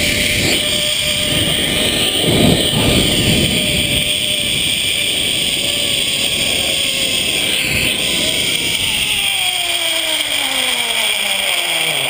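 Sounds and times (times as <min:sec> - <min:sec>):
zipline pulleys whirring on cable: 0:00.0 - 0:12.0.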